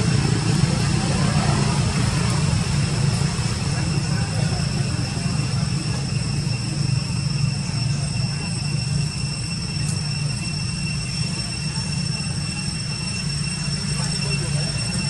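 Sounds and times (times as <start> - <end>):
high-pitched whining tones: 0.0 - 15.0
low rumble: 0.0 - 15.0.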